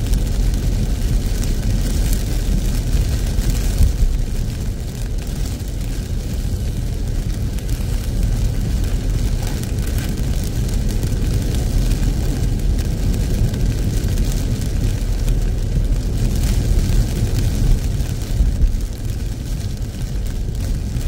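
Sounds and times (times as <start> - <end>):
car rumbling on wet road: 0.0 - 21.0
rain hitting windscreen and roof: 0.0 - 21.0.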